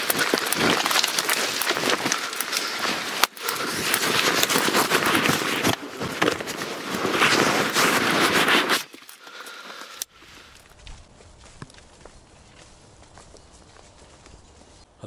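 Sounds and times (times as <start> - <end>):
dry leaves and clothing rustling: 0.0 - 15.0.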